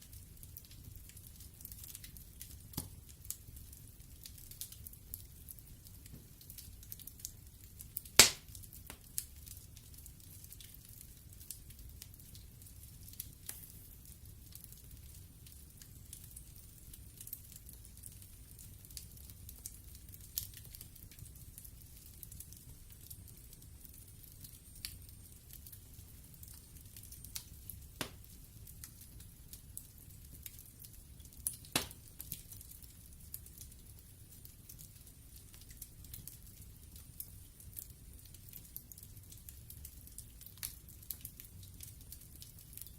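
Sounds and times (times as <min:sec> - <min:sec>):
fire crackling and popping: 0:00.0 - 0:42.9
wood fire rumble and hiss: 0:00.0 - 0:42.9.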